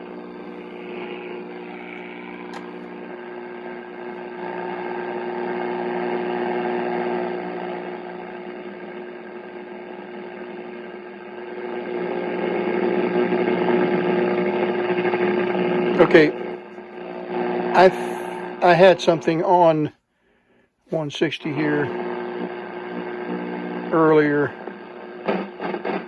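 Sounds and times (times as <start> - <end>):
radio static and hiss: 0.0 - 19.9, 20.9 - 26.0
steady hum: 0.0 - 19.9, 20.9 - 26.0.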